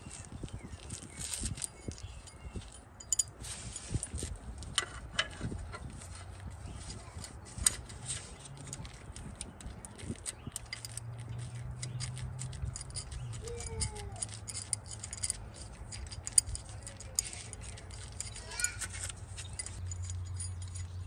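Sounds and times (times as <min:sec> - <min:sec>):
wrench clinking on bolt: 0:01.4 - 0:06.0, 0:07.2 - 0:21.0.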